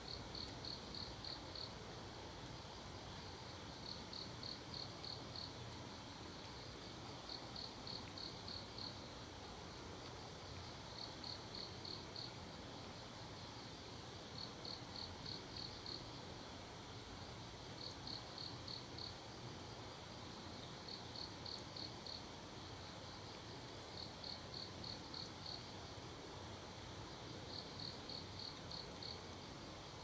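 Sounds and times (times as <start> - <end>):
cricket chirping: 0.0 - 1.9, 2.6 - 5.7, 6.4 - 9.2, 10.5 - 16.5, 17.2 - 26.0, 27.1 - 30.0.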